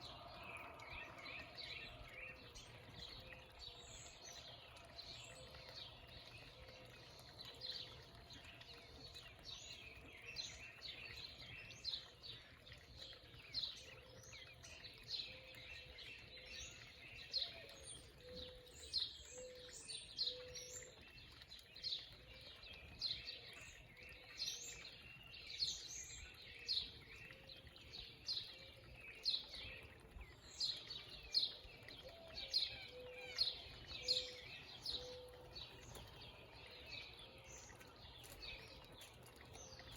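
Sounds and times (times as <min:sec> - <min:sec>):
small birds chipping: 0:00.0 - 0:39.9.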